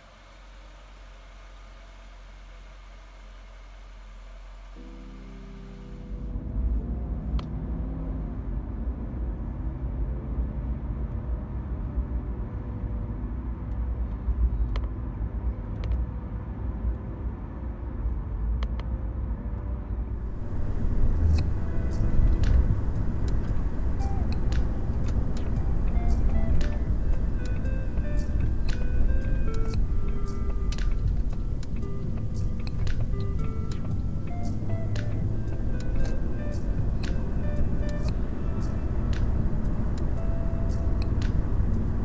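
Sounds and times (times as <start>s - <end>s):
car engine rumble in cabin: 0.0s - 42.0s
road noise: 0.0s - 42.0s.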